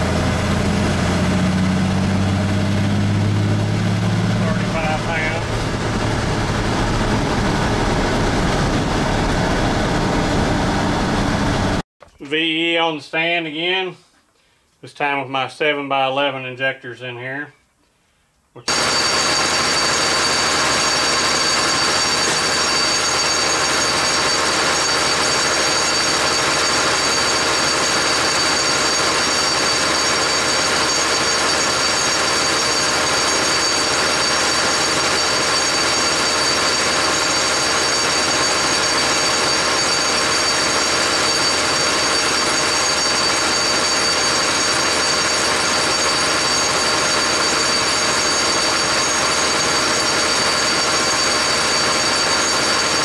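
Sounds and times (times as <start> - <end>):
injection pump test stand running: 0.0 - 11.8, 18.7 - 53.0
steady high whine: 0.0 - 11.8, 18.6 - 53.0.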